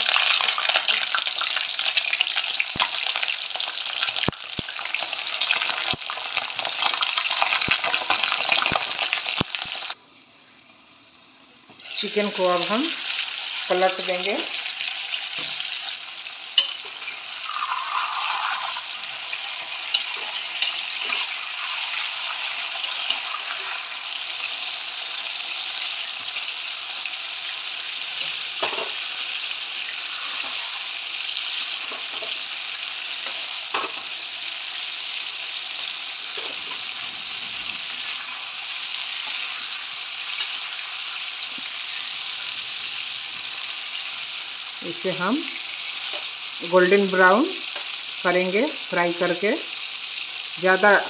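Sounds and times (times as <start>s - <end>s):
chicken frying in oil: 0.0s - 10.0s, 11.8s - 51.0s.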